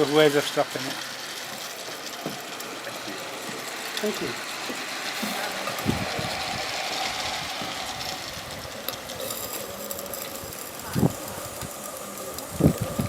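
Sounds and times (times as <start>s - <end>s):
steam hiss: 0.0s - 13.0s
steam locomotive exhaust chatter: 0.0s - 13.0s.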